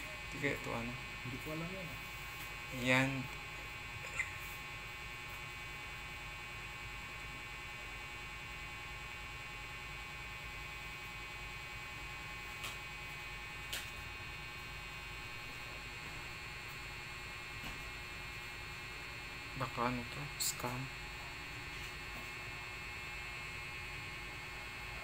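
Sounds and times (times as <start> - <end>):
electrical hum and buzz: 0.0 - 25.0.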